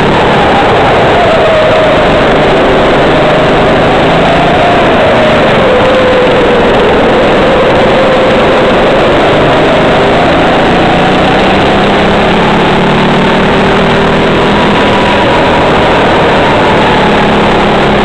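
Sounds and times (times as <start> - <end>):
kart engine accelerating: 0.0 - 18.0.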